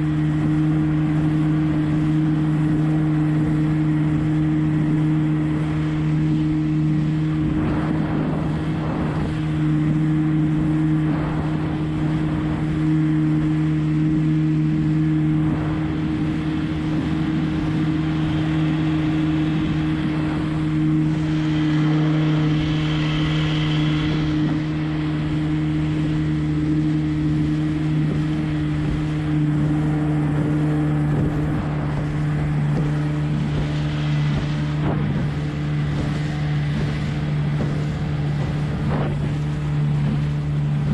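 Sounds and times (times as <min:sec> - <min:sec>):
outboard motor running: 0:00.0 - 0:40.9
water rushing along hull: 0:00.0 - 0:40.9.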